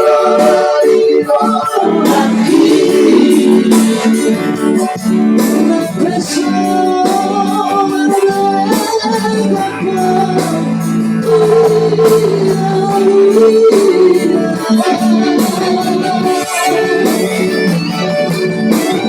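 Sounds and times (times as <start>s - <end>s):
wavering melody line: 0.0s - 6.3s, 9.5s - 19.0s.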